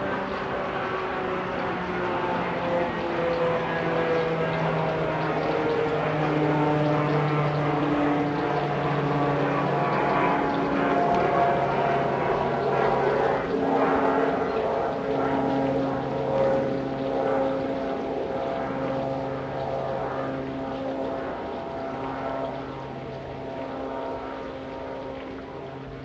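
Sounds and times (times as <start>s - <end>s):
turboprop aircraft droning past: 0.0s - 26.0s.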